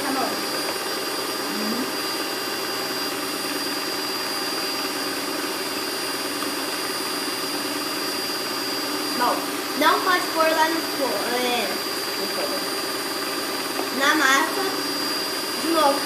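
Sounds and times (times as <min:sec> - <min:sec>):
electric mixer motor whirring: 0:00.0 - 0:16.0.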